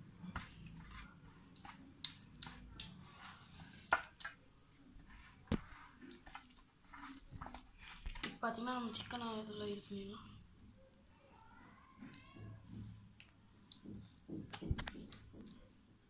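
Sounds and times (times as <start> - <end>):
hand squishing marinade: 0.2 - 9.8, 12.1 - 15.8.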